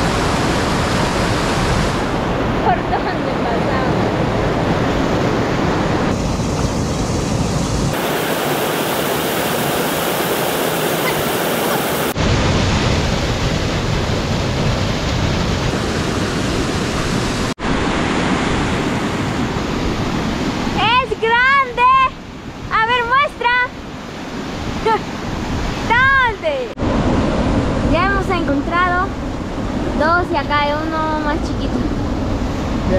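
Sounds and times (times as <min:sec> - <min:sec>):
rushing river: 0:00.0 - 0:32.9.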